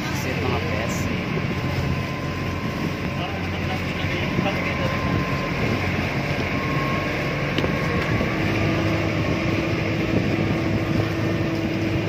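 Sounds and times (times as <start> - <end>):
boat engine humming: 0.0 - 12.0
rushing wind: 0.0 - 12.0
water noise: 0.0 - 12.0.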